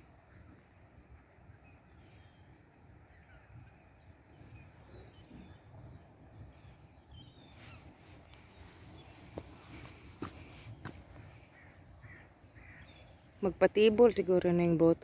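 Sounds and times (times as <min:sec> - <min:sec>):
wild birds chirping: 0:00.1 - 0:14.2.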